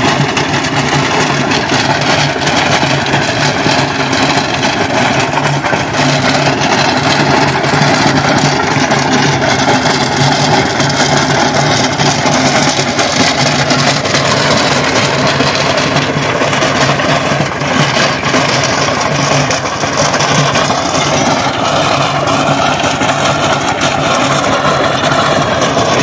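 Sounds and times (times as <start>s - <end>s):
diesel tractor engine running: 0.0s - 26.0s
rotavator churning soil: 0.0s - 26.0s.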